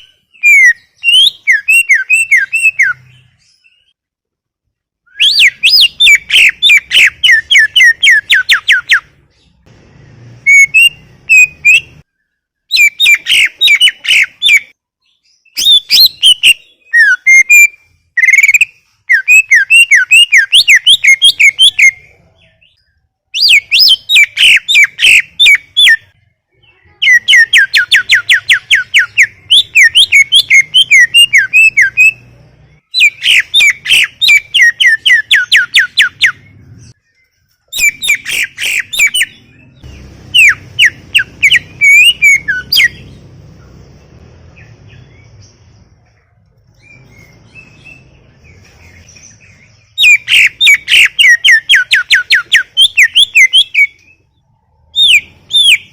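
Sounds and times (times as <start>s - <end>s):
bird singing rapid whistled notes: 0.0s - 4.0s, 5.0s - 46.0s, 46.6s - 55.9s.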